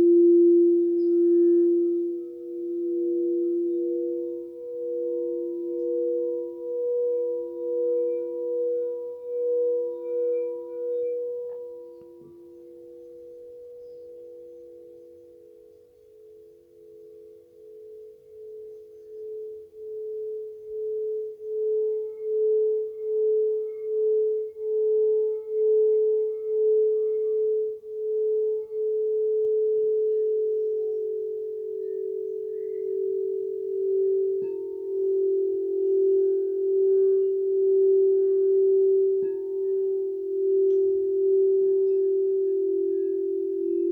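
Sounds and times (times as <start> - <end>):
crystal singing bowls ringing: 0.0 - 43.9.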